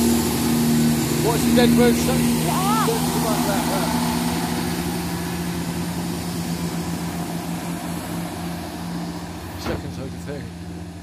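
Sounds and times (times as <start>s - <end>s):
diesel train engine drone: 0.0s - 11.0s
wheel and rail rumble: 0.0s - 11.0s.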